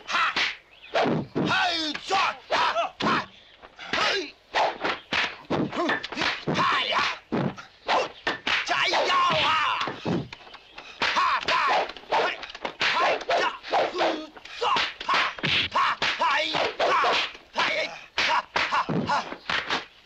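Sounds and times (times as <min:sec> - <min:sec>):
fight whacks and stick swishes: 0:00.2 - 0:03.3, 0:03.9 - 0:10.4, 0:11.0 - 0:20.0.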